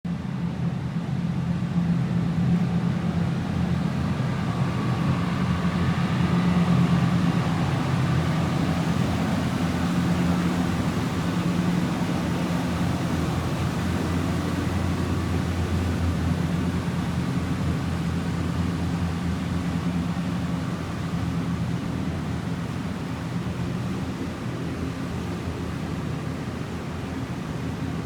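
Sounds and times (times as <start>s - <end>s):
boat engine humming: 2.5s - 28.0s.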